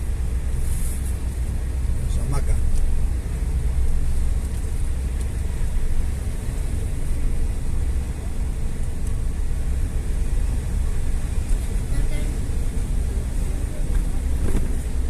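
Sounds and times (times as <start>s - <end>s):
road vehicle rumbling: 0.0s - 15.0s.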